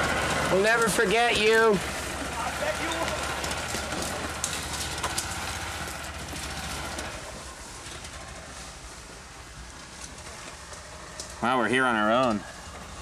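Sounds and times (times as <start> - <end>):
small vehicle engine driving away: 0.0 - 13.0.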